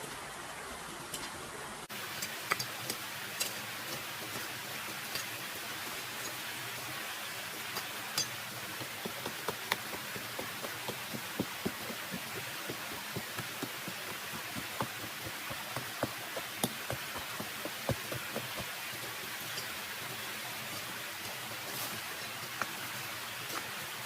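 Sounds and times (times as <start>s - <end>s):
steady rain hissing: 0.0s - 24.0s
raindrops ticking and tapping: 1.9s - 24.0s.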